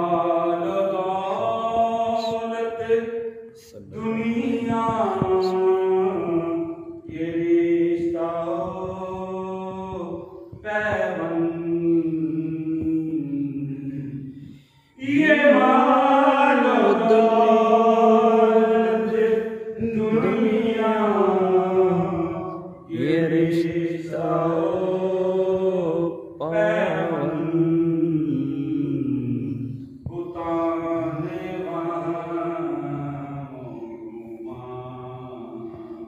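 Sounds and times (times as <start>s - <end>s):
person chanting melodic litany: 0.0s - 36.0s.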